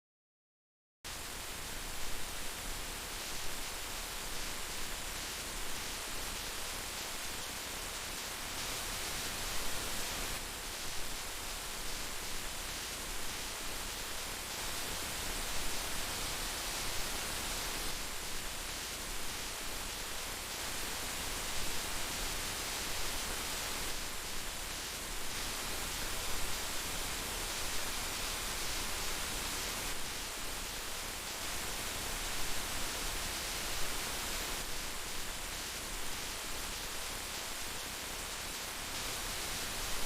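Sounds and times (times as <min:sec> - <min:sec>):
heavy rain hissing: 0:01.1 - 0:40.0.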